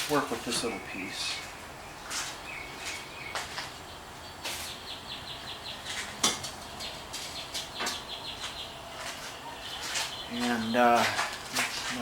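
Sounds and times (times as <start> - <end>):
bird chirping trill: 0.5 - 11.1.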